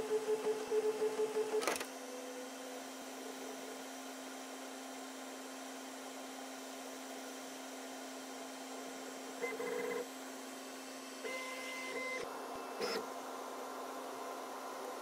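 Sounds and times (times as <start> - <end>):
printer steady hum: 0.0 - 15.0.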